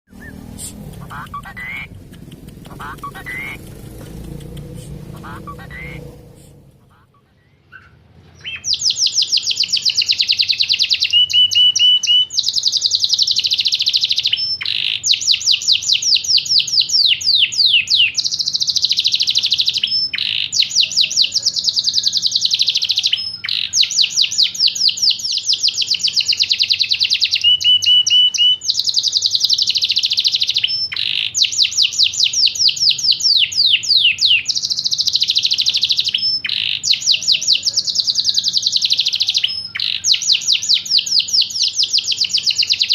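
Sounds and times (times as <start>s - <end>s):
canary singing: 0.1s - 42.9s.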